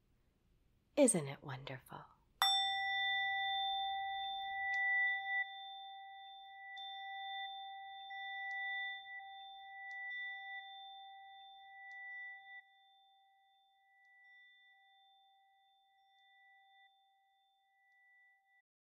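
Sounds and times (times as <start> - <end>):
singing bowl ringing: 2.4 - 18.6.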